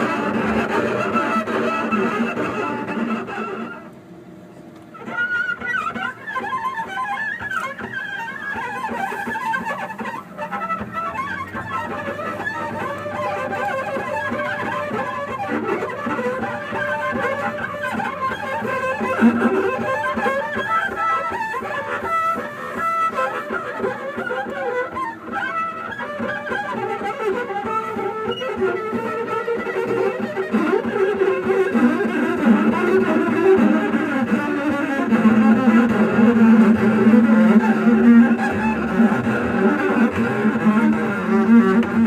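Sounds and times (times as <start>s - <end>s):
bowed double bass: 0.0s - 3.7s, 6.5s - 23.7s, 26.5s - 42.0s.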